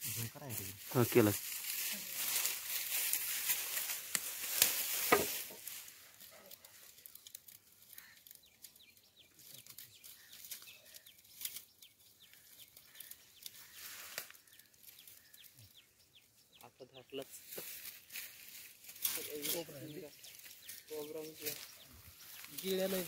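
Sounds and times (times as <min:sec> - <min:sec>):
birds chirping: 0:00.0 - 0:23.0
dry stalks rustling and crackling: 0:00.0 - 0:23.0.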